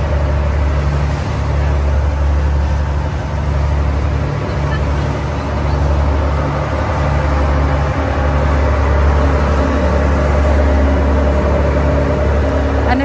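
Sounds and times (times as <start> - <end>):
boat engine droning: 0.0 - 13.0
wind: 0.0 - 13.0.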